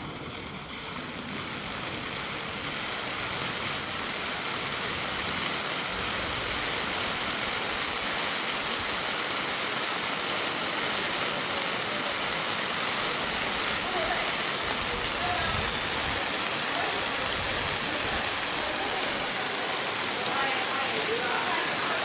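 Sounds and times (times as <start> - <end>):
firework sparks rushing hiss: 0.0 - 22.0.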